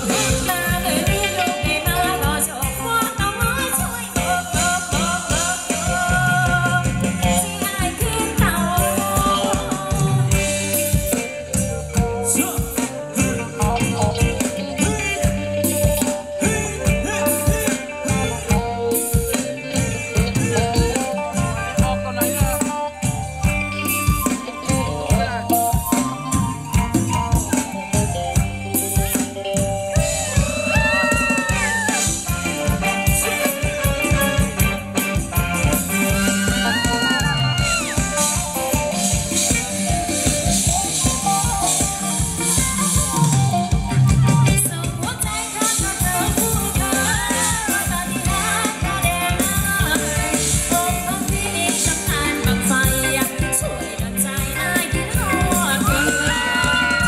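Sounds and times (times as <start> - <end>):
live band playing dance music: 0.0 - 57.0
steady drum beat: 0.0 - 57.0
wavering melody line: 0.0 - 57.0.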